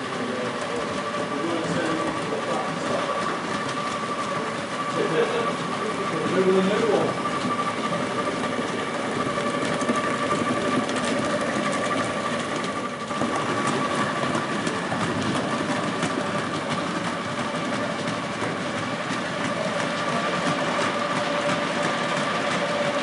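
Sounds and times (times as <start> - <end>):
model locomotive humming: 0.0 - 23.0.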